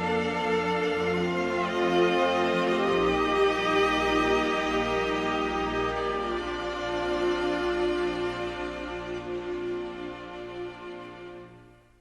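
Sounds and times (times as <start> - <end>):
cello: 0.0 - 12.0
violin: 0.0 - 12.0.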